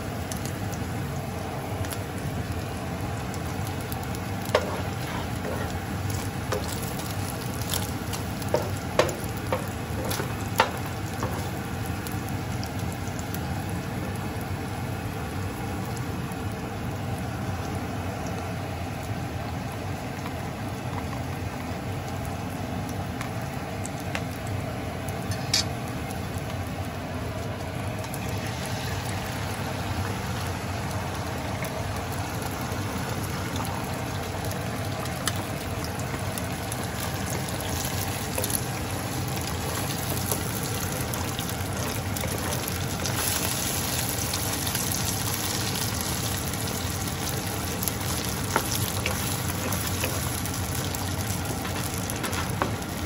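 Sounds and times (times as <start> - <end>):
oil sizzling in a frying pan: 0.0 - 53.0.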